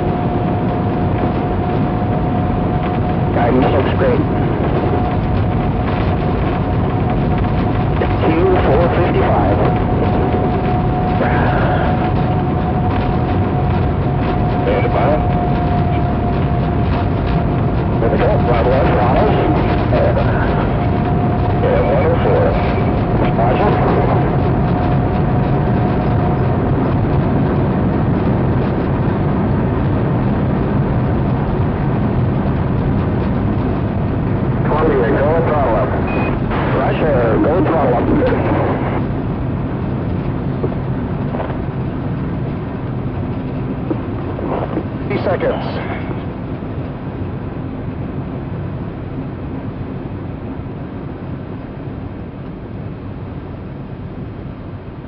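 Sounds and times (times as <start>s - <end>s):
deep rumbling rocket roar: 0.0s - 55.0s.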